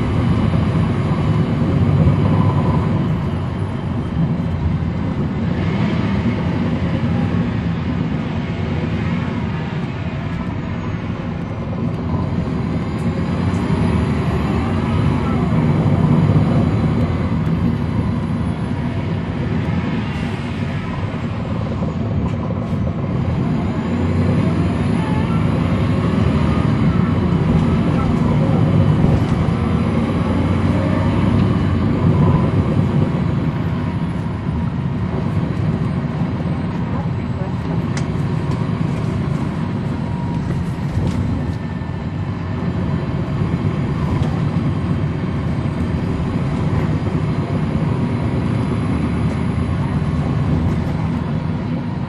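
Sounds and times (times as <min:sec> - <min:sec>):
bus diesel engine running: 0:00.0 - 0:52.0.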